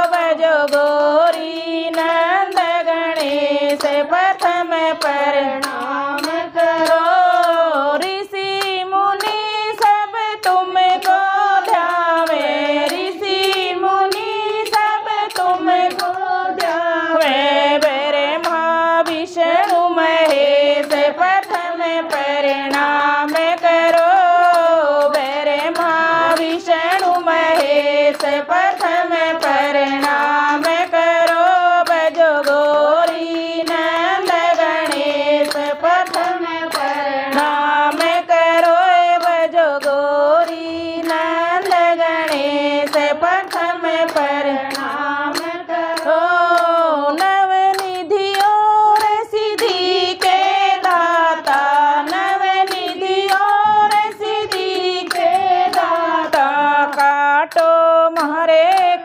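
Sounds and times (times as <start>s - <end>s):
hand claps: 0.0s - 59.0s
women singing devotional song: 0.0s - 59.0s.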